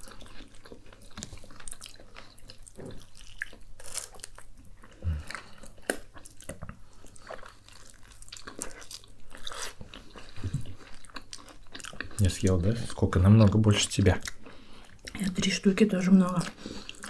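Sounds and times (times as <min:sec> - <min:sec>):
people chewing and biting: 0:00.0 - 0:15.4, 0:16.3 - 0:17.0.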